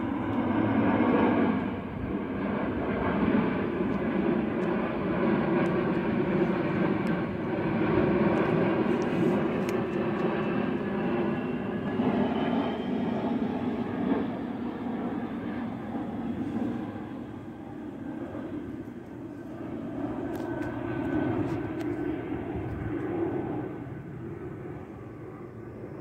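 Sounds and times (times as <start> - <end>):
jet airliner flying overhead: 0.0 - 26.0.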